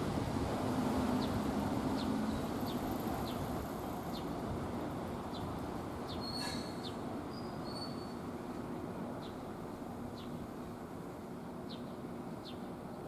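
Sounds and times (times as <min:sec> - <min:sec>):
electric train rumbling past: 0:00.0 - 0:11.6.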